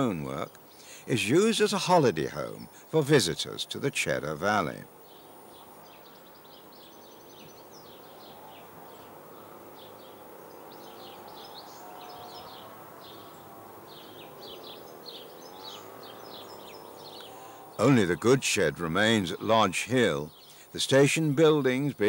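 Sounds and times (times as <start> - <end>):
small birds chirping: 0.0 - 22.0
steady outdoor hiss: 0.0 - 22.0.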